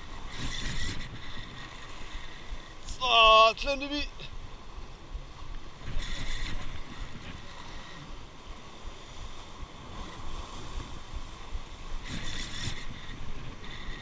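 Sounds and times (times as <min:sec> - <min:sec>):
fishing reel whirring: 0:00.0 - 0:03.5, 0:05.7 - 0:14.0
sea waves against rocks: 0:00.0 - 0:14.0
wind buffeting microphone: 0:00.0 - 0:14.0.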